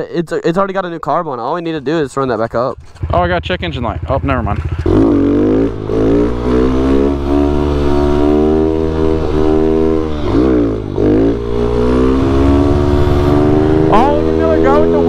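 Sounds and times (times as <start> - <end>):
motorbike engine revving: 2.7 - 15.0.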